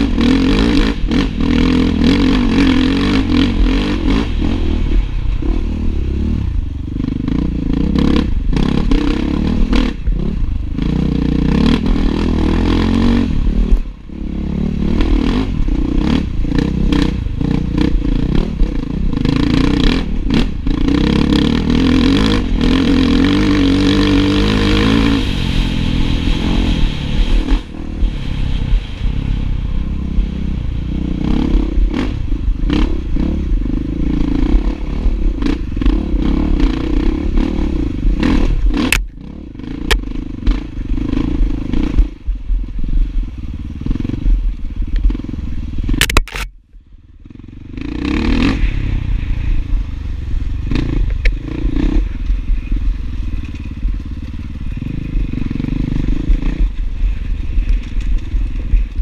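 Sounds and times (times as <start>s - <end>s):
dirt bike engine revving: 0.0s - 46.5s, 47.2s - 59.0s.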